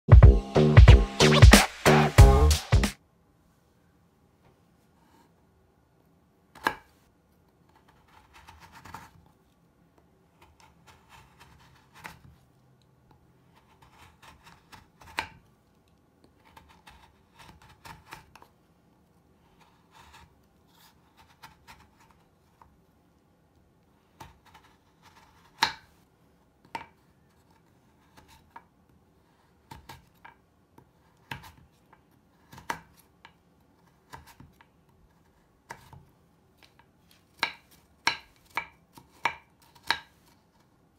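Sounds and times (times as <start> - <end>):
knife cutting crumbly bar: 6.5 - 22.8, 23.9 - 40.9.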